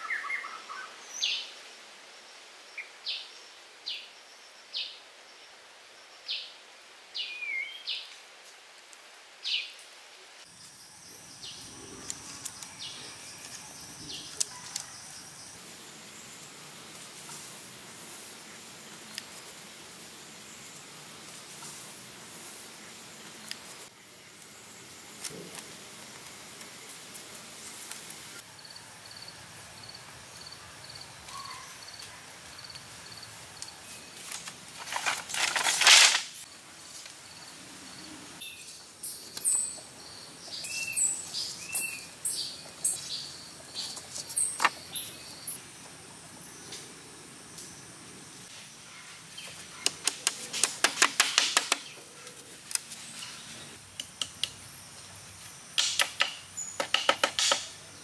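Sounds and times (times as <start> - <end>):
insects chirping: 10.4 - 58.0.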